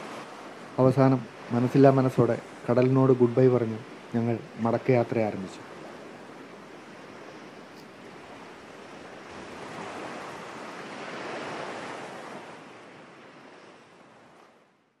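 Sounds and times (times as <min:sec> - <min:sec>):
surf breaking on a beach: 0:00.0 - 0:14.7.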